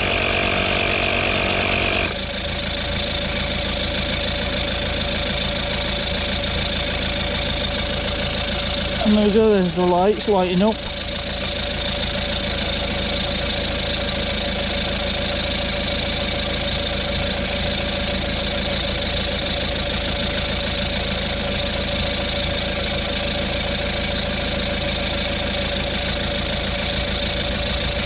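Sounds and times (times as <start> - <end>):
tyre inflator compressor chugging: 0.0 - 28.0.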